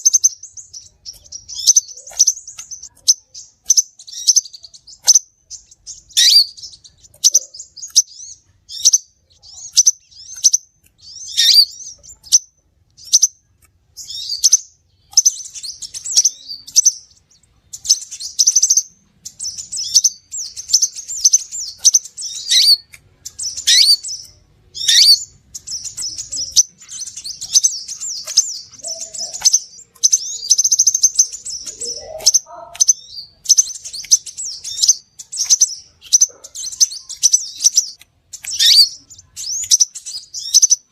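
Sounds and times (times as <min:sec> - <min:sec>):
bird chirping and twittering: 0:00.0 - 0:40.9.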